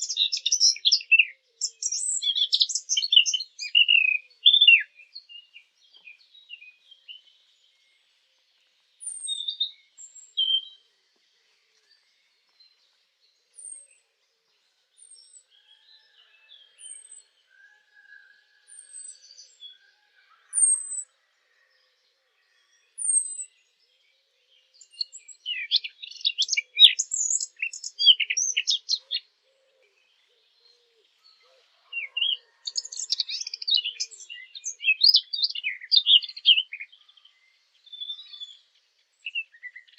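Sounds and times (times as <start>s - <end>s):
warbler song: 0.0s - 39.9s.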